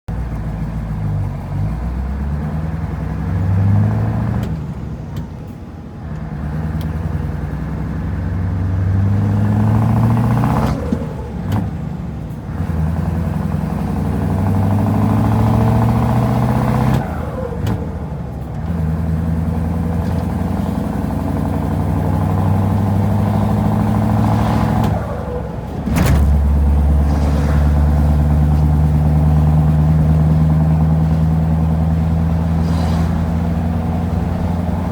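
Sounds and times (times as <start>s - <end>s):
truck engine accelerating through gears: 0.1s - 34.9s.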